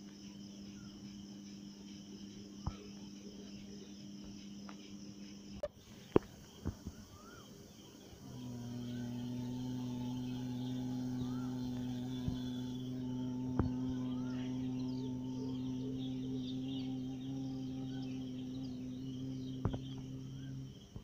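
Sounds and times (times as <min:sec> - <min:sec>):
insects: 0:00.0 - 0:21.0
low steady humming drone: 0:00.0 - 0:21.0.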